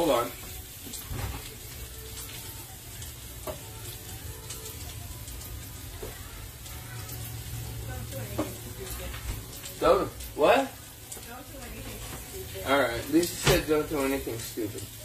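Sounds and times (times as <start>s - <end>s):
steaks sizzling in a pan: 0.0s - 15.0s.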